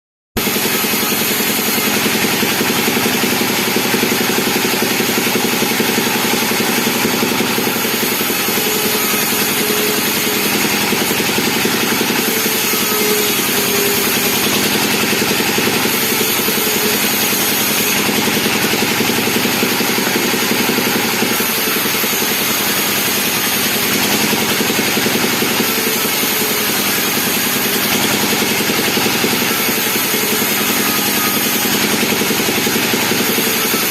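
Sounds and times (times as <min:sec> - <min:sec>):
chainsaw engine running: 0:00.4 - 0:33.9.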